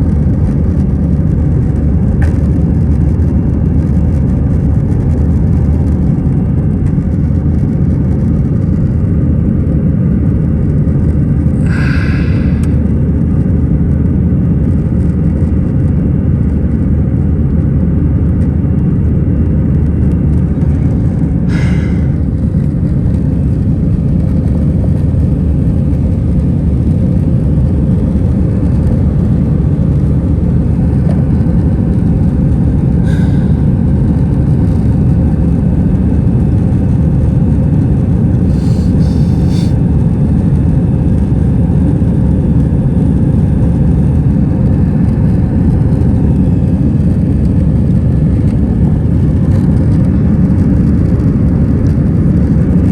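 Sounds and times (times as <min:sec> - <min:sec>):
airplane cabin engine rumble: 0:00.0 - 0:52.9.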